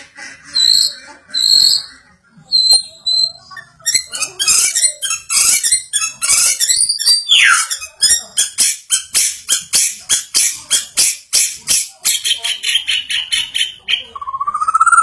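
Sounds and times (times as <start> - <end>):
bird harsh scratchy calls: 0.0 - 15.0.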